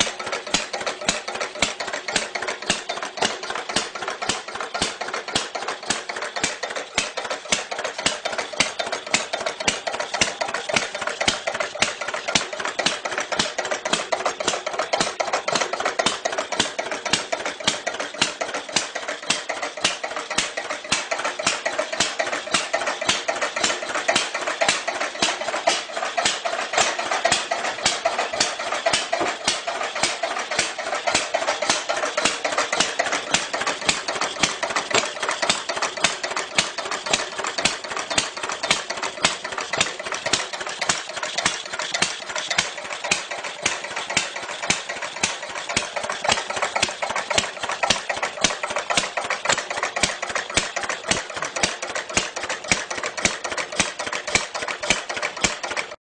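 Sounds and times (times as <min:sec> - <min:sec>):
old engine idling with clatter: 0:00.0 - 0:56.0.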